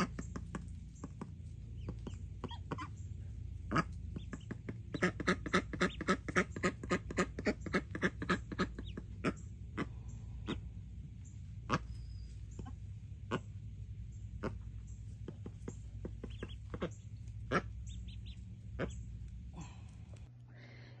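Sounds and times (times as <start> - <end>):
ducklings peeping: 0.0 - 20.3.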